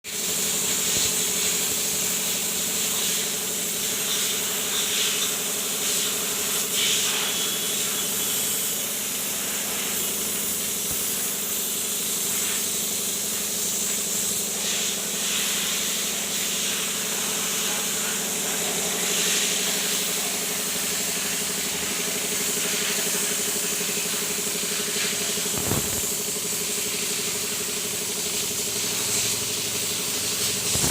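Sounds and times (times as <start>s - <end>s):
high hiss: 0.2s - 26.2s.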